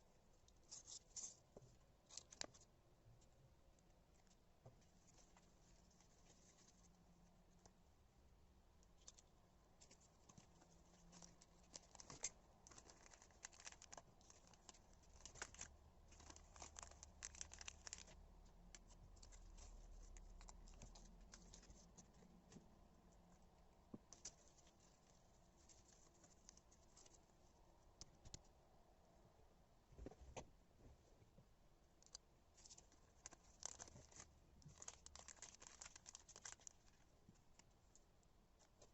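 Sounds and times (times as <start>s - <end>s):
tape rustling and crackling: 0.4s - 7.9s, 8.7s - 28.7s, 31.2s - 38.9s.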